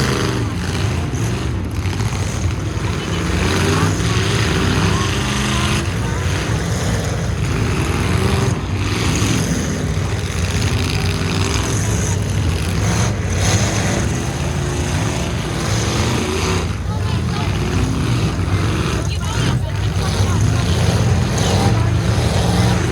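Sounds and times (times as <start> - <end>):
truck engines revving: 0.0 - 22.9.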